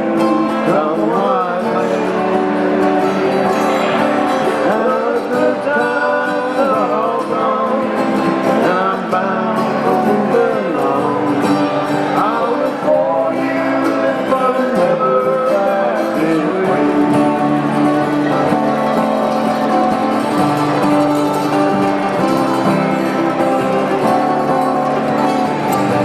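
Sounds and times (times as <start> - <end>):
acoustic guitars strumming: 0.0 - 26.0.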